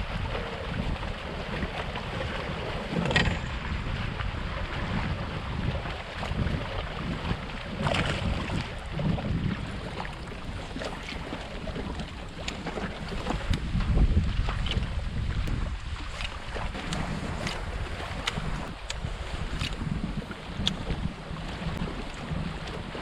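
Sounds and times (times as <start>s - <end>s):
water noise: 0.0s - 23.0s
wind buffeting microphone: 0.0s - 23.0s.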